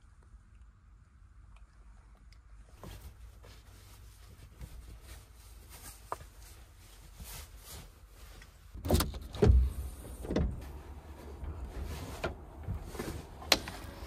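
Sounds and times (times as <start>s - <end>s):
rustling of bedding and clothing: 2.6s - 14.0s.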